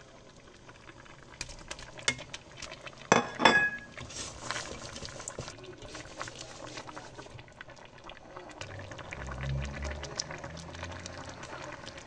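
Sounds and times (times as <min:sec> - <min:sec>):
stew bubbling in pot: 0:00.0 - 0:12.0.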